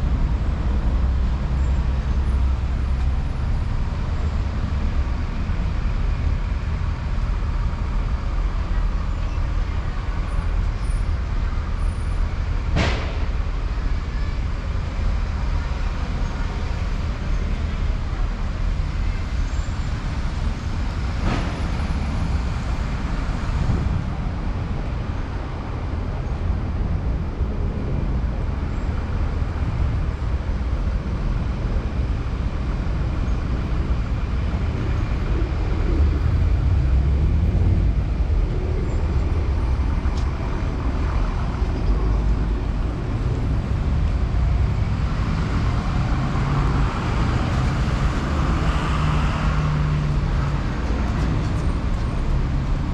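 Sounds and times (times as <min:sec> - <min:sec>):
street traffic passing: 0:00.0 - 0:52.9.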